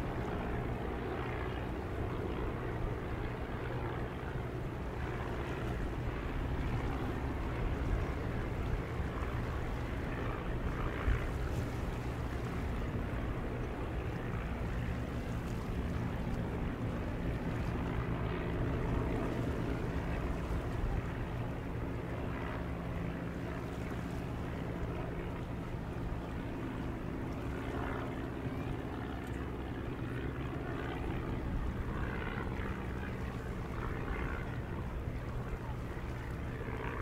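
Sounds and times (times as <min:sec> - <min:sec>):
biplane engine droning overhead: 0:00.0 - 0:37.0.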